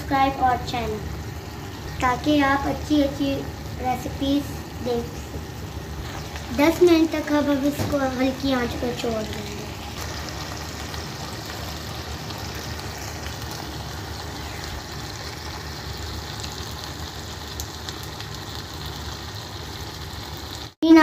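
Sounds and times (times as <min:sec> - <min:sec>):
pressure cooker hissing: 0:00.0 - 0:20.7.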